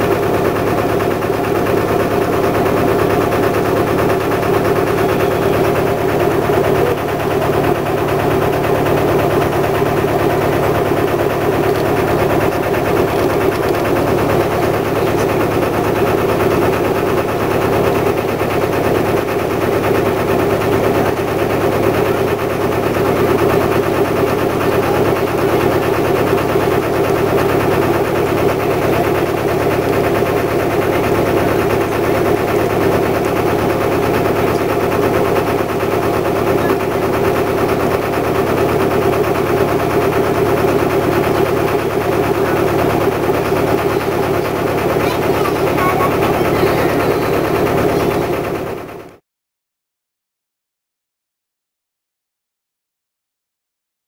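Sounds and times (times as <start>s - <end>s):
diesel boat engine running: 0.0s - 49.2s.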